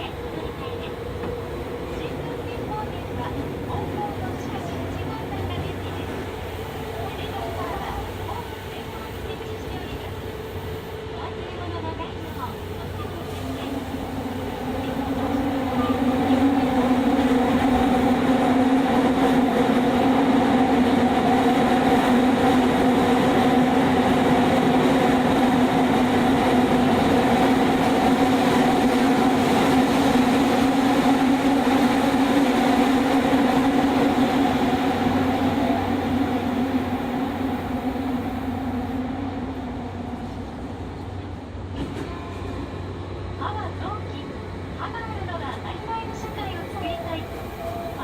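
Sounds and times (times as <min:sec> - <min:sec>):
subway train running hum: 0:00.0 - 0:48.0.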